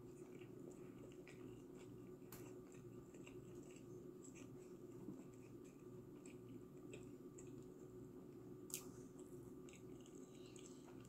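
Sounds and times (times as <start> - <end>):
faint chewing: 0.0 - 11.0
low room hum: 0.0 - 11.0.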